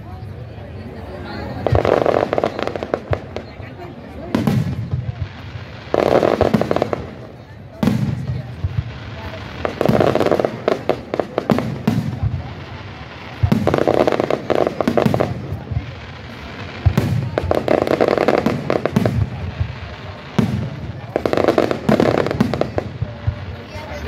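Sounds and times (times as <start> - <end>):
fireworks bursting with loud bangs: 1.4 - 24.0.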